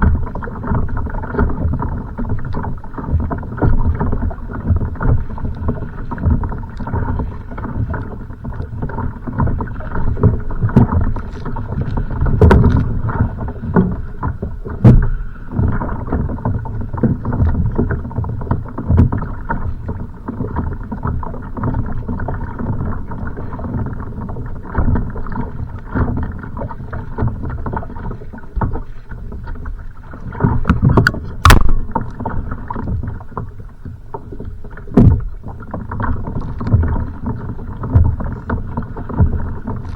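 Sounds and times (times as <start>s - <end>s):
knocks against a boat: 0.0s - 22.5s, 24.7s - 39.9s
waves slapping against a kayak: 0.0s - 39.9s
wind rumbling on microphone: 0.0s - 39.9s.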